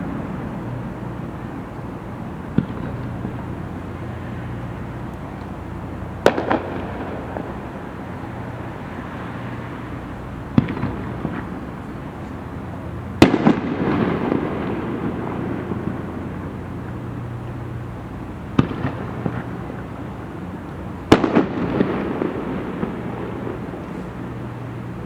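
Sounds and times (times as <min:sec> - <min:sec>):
fireworks bursting: 0:00.0 - 0:25.0
fireworks crackling: 0:00.0 - 0:25.0.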